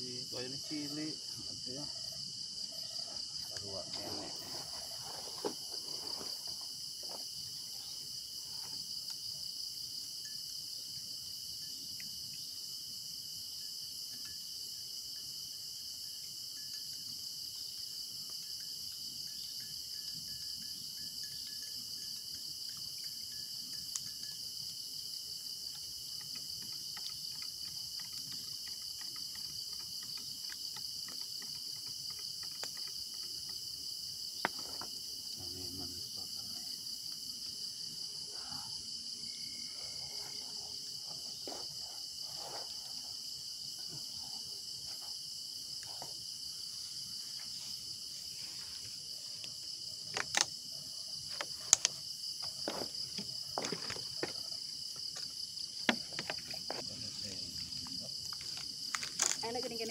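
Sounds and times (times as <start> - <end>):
crickets chirring: 0.0 - 59.9.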